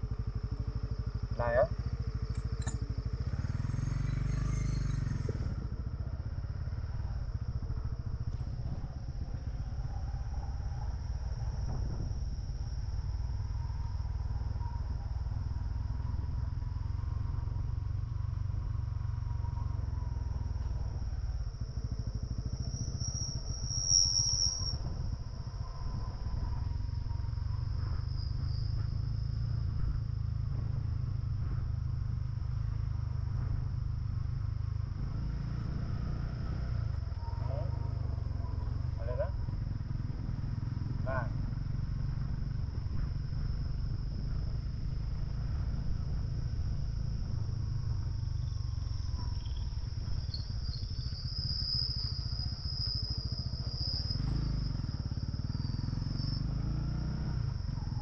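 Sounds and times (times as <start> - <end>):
insects chirring: 0.0 - 58.0
motorcycle engine rumbling: 0.0 - 58.0.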